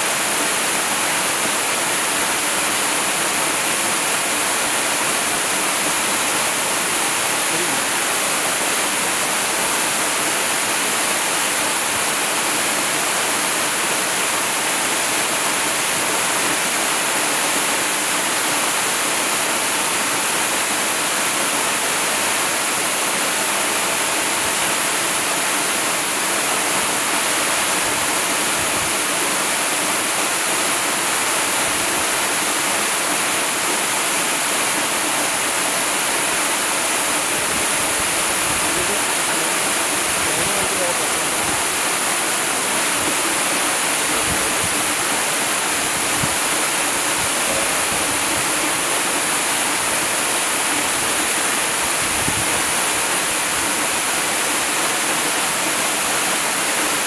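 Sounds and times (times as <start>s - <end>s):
waterfall pouring onto rocks: 0.0s - 57.0s.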